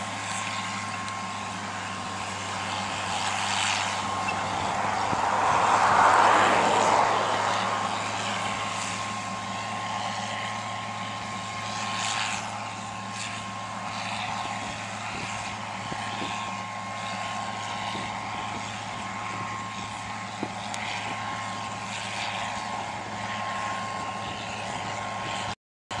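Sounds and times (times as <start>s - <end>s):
constant mechanical whine: 0.0s - 26.0s
tractor diesel engine running: 0.0s - 26.0s.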